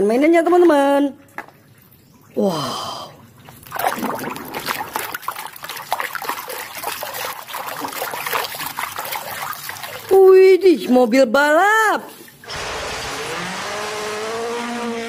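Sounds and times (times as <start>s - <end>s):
water sloshing in a basin: 0.0s - 12.5s.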